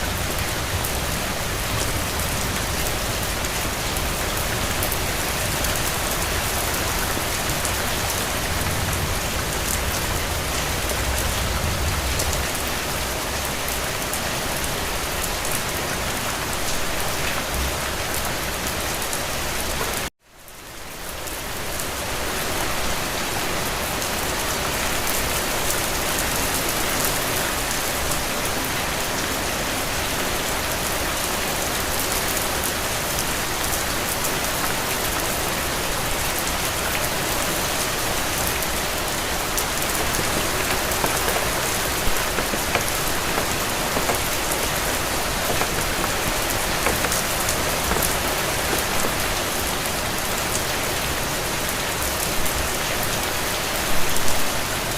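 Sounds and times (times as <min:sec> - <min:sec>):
rain drops spattering: 0:00.0 - 0:20.1, 0:23.7 - 0:54.9
steady rain falling: 0:00.0 - 0:54.9.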